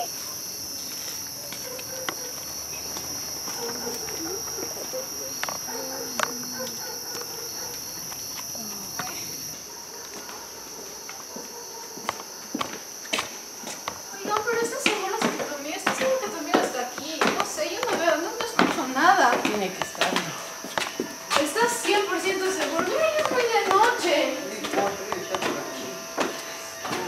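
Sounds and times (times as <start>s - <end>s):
crickets trilling: 0.0s - 27.0s
footsteps: 0.0s - 27.0s.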